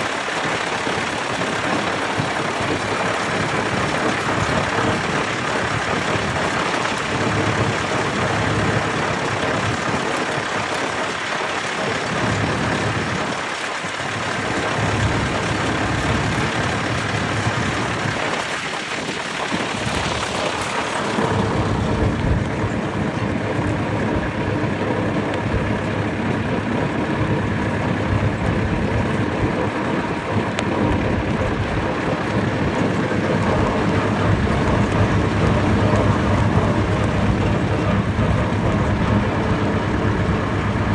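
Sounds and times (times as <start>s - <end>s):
tractor engines running: 0.0s - 40.9s.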